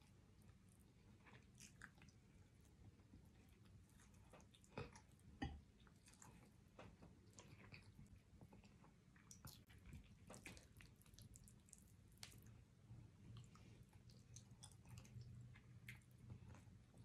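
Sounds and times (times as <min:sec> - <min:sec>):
wet chewing: 0:00.4 - 0:17.0.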